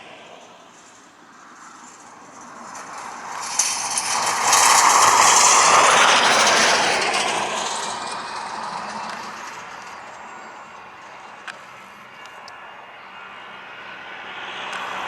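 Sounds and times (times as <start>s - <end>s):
jet aircraft engine rushing: 0.0s - 15.0s
turbine whine falling in pitch: 0.0s - 15.0s.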